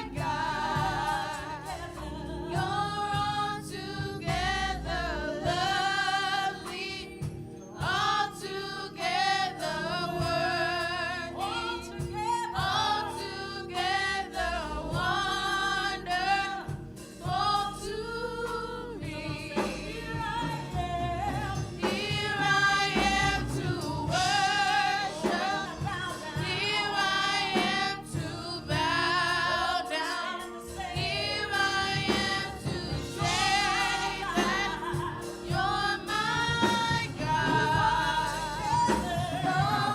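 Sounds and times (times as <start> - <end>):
choir singing: 0.0 - 39.9
sustained organ chords: 0.0 - 39.9
lead singer with vibrato: 7.4 - 39.9.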